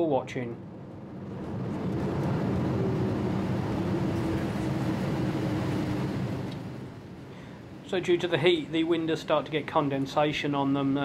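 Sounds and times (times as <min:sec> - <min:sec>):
aircraft cabin engine and air rush: 0:00.0 - 0:11.0.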